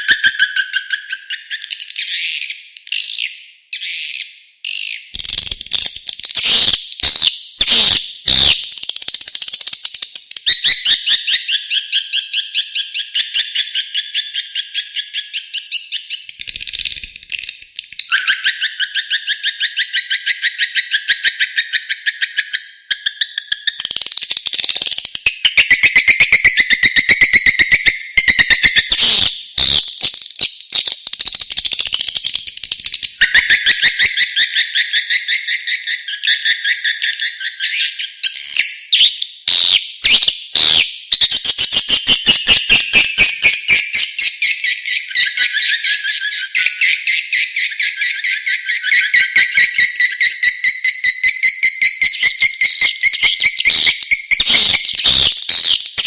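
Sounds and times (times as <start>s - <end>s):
rapid twittering bird chirps: 0.0s - 56.0s.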